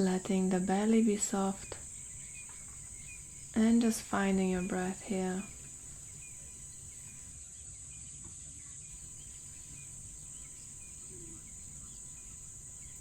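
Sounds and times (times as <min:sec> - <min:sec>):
faint bird chirps: 0:00.0 - 0:07.4, 0:08.9 - 0:13.0
high-pitched insect chorus: 0:00.0 - 0:07.4, 0:08.9 - 0:13.0.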